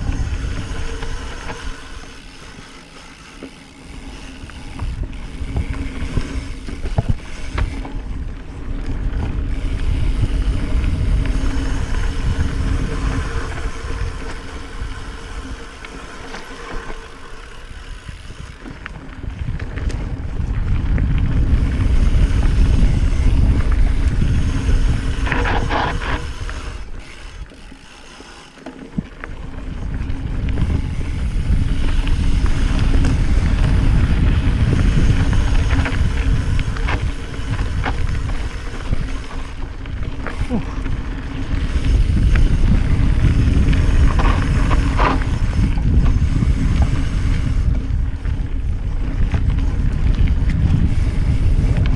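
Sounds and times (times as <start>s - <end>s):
wind rumble on microphone: 0.0s - 27.8s, 28.8s - 51.9s
tyres rolling over dirt: 0.0s - 51.7s.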